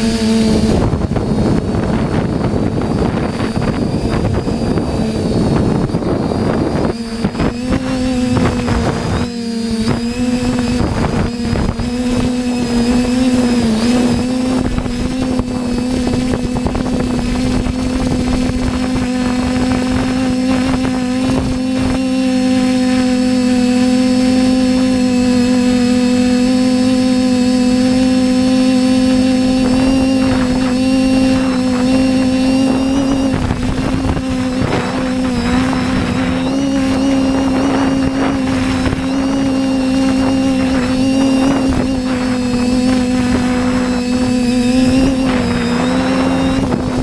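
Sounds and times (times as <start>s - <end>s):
drone propellers droning: 0.0s - 47.0s
wind buffeting microphone: 0.0s - 47.0s.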